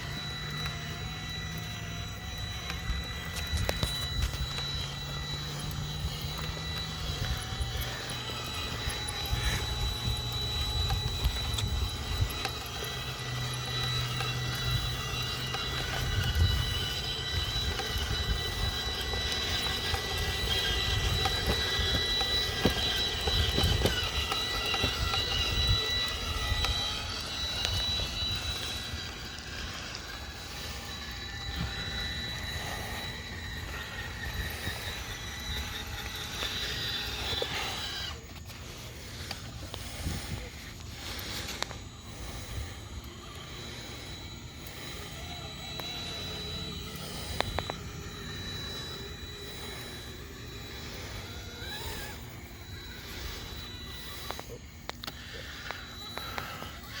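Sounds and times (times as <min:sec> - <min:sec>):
electric motor whining: 0:00.0 - 0:57.0.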